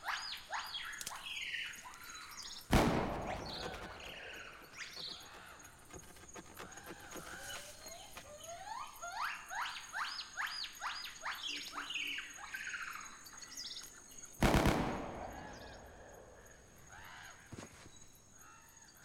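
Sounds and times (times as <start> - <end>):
soft bird chirps: 0.0 - 19.0.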